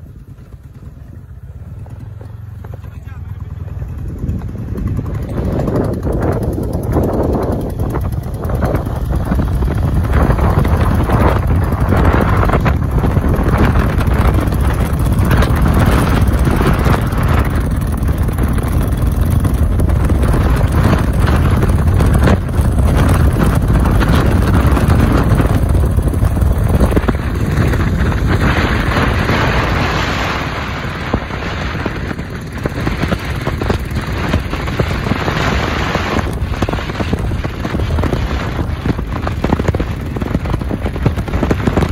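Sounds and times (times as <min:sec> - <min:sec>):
motorcycle engine at speed: 0:00.0 - 0:41.9
wind buffeting microphone: 0:00.0 - 0:41.9.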